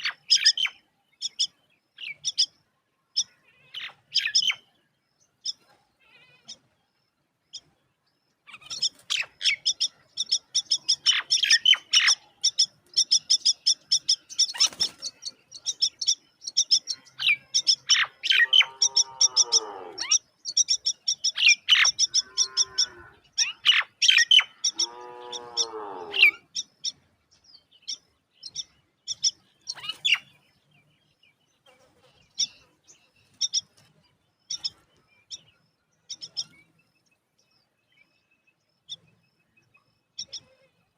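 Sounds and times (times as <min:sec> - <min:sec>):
bird chicks chirping: 0:00.0 - 0:40.9
longer lower bird calls: 0:00.0 - 0:40.9.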